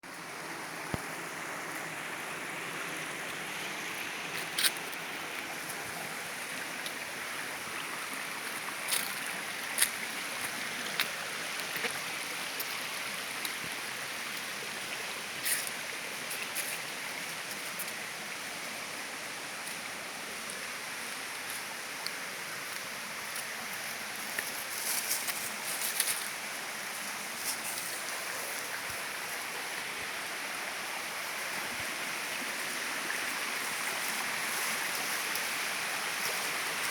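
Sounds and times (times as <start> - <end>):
stream water rushing: 0.0 - 36.9.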